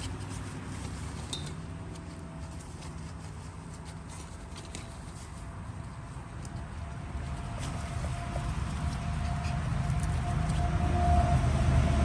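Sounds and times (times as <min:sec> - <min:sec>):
paws clicking and tapping: 0:00.0 - 0:10.8.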